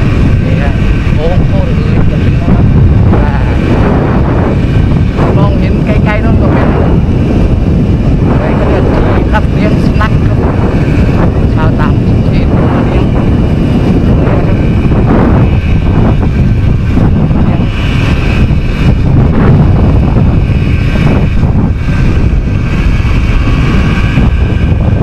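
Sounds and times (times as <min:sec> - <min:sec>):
motorcycle engine buzzing: 0:00.0 - 0:25.0
wind rumble on microphone: 0:00.0 - 0:25.0.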